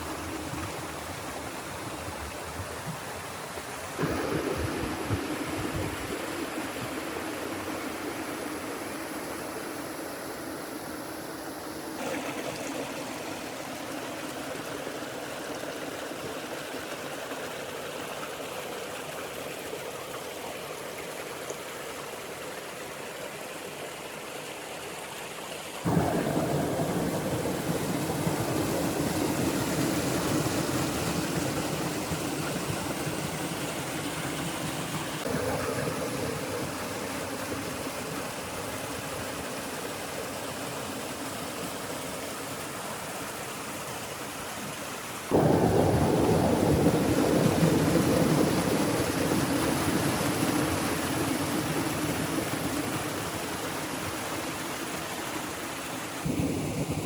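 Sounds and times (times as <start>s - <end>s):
water rushing and splashing: 0.0s - 57.0s.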